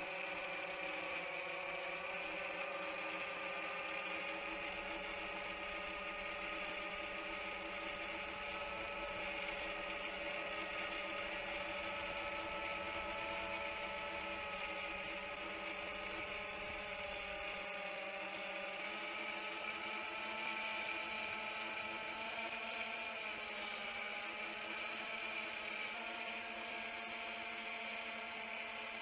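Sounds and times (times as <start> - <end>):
quadcopter propellers whining: 0.0 - 29.0.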